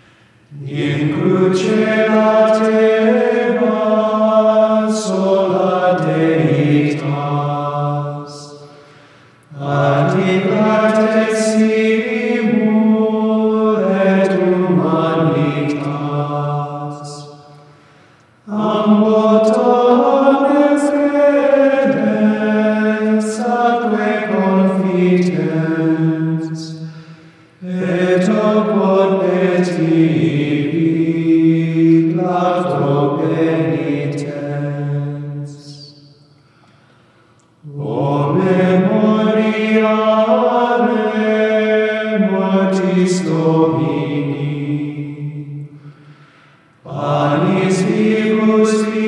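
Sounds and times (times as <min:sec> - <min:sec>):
male choir chanting: 0:00.5 - 0:08.8, 0:09.5 - 0:17.6, 0:18.5 - 0:36.1, 0:37.6 - 0:45.8, 0:46.8 - 0:49.0.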